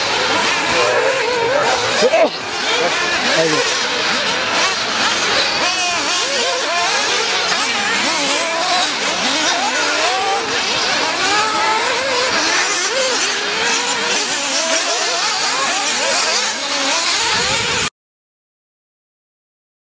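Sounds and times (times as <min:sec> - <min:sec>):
rc car engines whining: 0:00.0 - 0:17.9.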